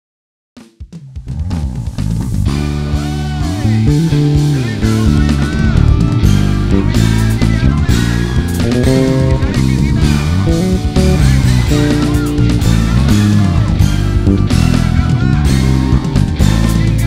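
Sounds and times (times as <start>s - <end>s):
backing track with drums: 0.6s - 17.0s
fingerstyle electric bass line: 1.3s - 17.0s.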